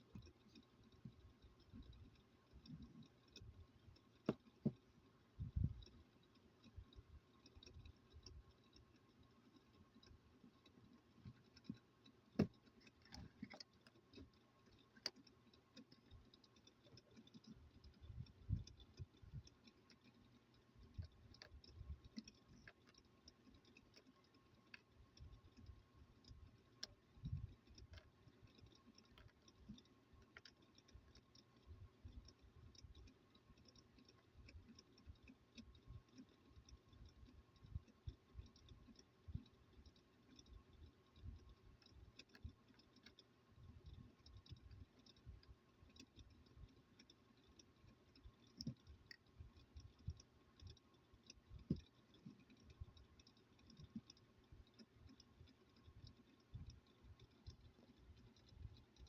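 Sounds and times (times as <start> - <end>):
small plastic parts clicking: 0.0 - 59.0.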